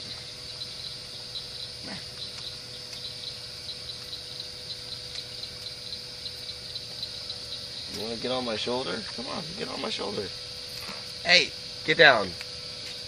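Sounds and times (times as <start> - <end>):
crickets chirping: 0.0 - 13.0
faint steady hum: 0.0 - 13.0.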